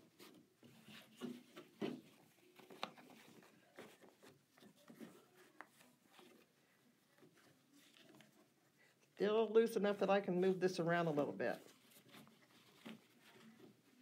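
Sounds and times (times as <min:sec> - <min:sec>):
fabric rustling: 0:00.0 - 0:14.0.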